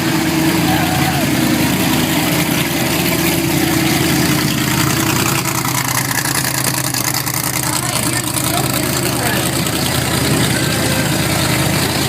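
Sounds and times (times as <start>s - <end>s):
engine idling: 0.0s - 12.0s
outdoor noise: 0.0s - 12.0s.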